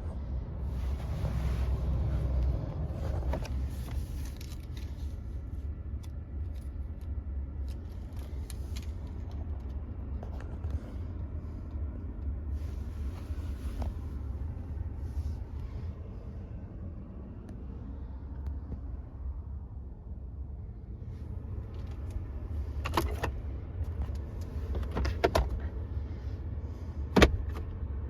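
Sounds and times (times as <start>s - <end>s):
low vehicle rumble: 0.0s - 28.0s.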